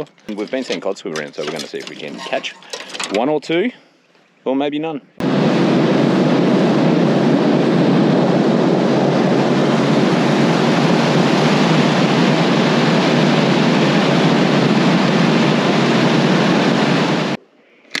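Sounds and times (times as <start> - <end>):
wind: 0.0 - 18.0.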